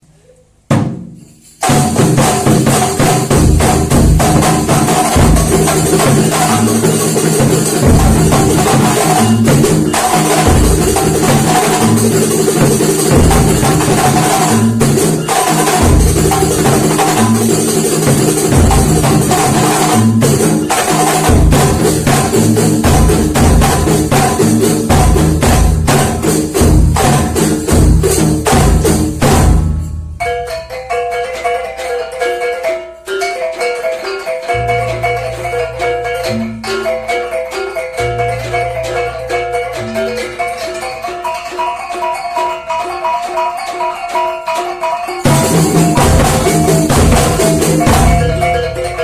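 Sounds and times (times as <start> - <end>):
frame drums with jingles: 0.6 - 49.0.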